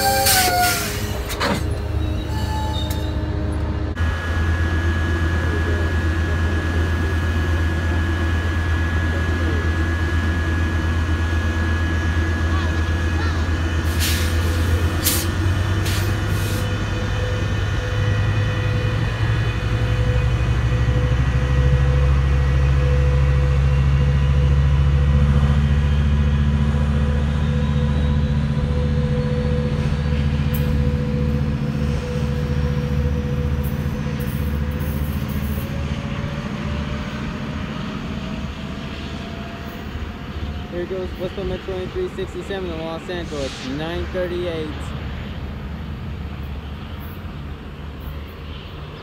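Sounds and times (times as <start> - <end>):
diesel locomotive engine: 0.0 - 49.0
rising train tone: 0.0 - 49.0.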